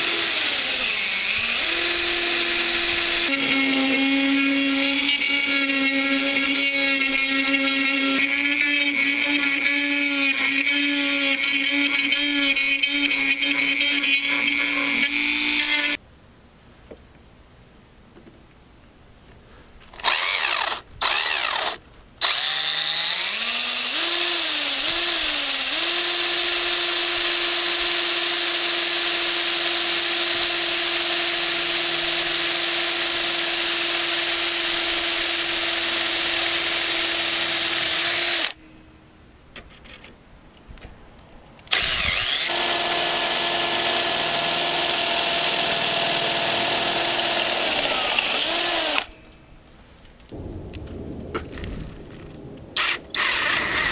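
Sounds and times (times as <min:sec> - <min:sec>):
cordless drill whining: 0:00.0 - 0:16.0, 0:19.9 - 0:38.6, 0:41.7 - 0:49.2, 0:52.8 - 0:53.9.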